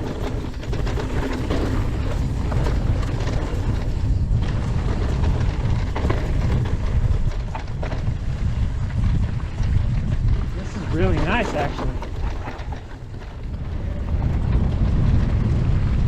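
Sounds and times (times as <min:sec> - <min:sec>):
bike rattling on dirt trail: 0:00.0 - 0:16.0
wind buffeting microphone: 0:00.0 - 0:16.0.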